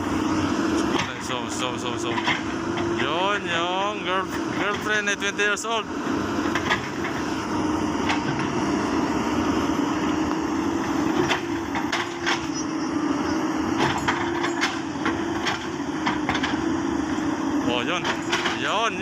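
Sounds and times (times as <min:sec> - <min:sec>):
bulldozer diesel engine under load: 0:00.0 - 0:19.0.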